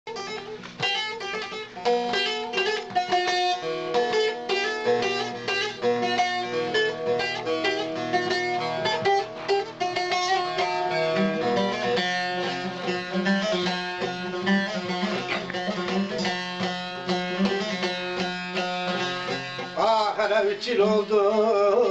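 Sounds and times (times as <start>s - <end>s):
long-necked lute playing fast plucked runs: 0.1s - 21.9s.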